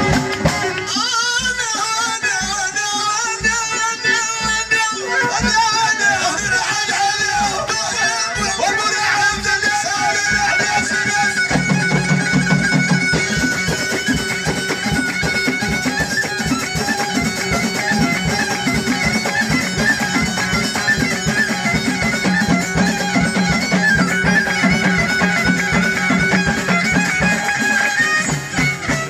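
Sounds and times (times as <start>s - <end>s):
bowed violin: 0.0s - 29.0s
frame drums and drum kit beat: 0.0s - 29.0s.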